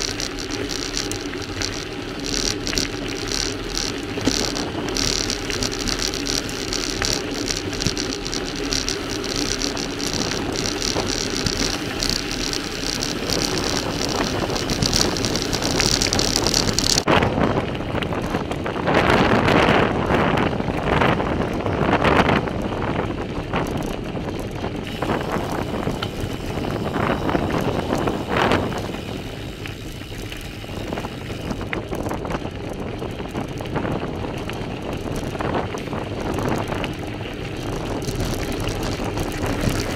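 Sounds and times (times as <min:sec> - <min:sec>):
bicycle tyres on gravel: 0:00.0 - 0:39.9
wind buffeting microphone: 0:00.0 - 0:39.9.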